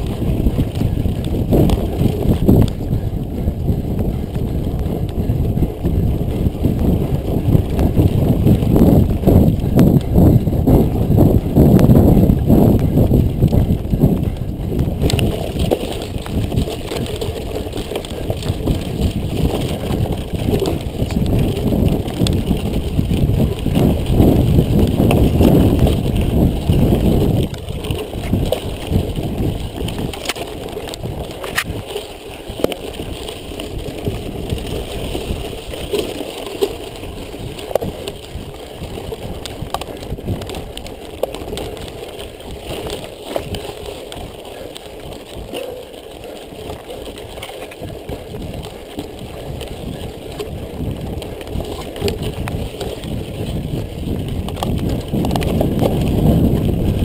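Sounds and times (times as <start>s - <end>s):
bike clicks and rattles: 0.0s - 57.0s
bike tyres rumbling: 0.0s - 57.0s
wind rushing on microphone: 0.0s - 57.0s.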